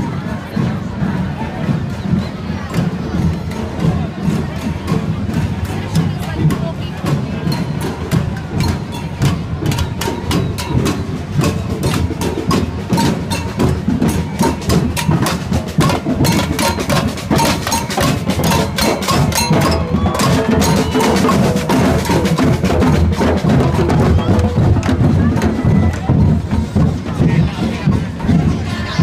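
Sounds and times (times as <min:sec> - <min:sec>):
deep drum beats: 0:00.0 - 0:29.0
marching drums playing: 0:00.0 - 0:29.0.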